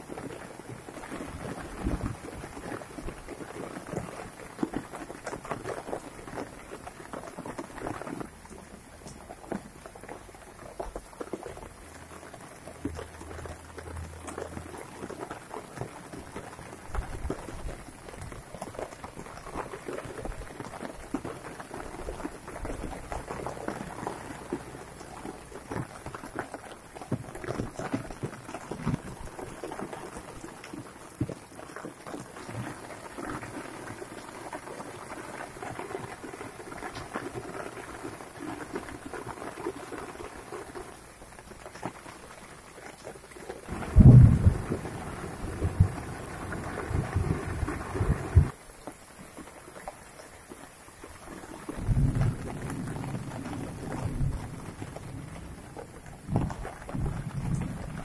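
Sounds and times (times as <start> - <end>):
rain pattering on wet ground: 0.0 - 58.0.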